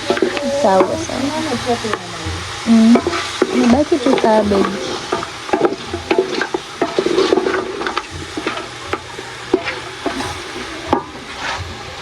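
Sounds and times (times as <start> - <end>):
utensil stirring food in pot: 0.0 - 11.6.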